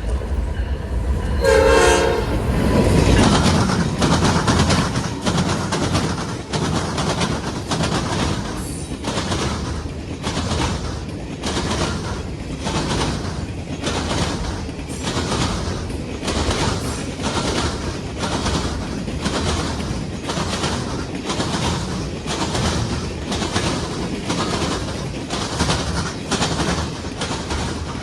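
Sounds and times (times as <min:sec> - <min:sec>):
railroad car wheels clattering: 0:00.0 - 0:28.0.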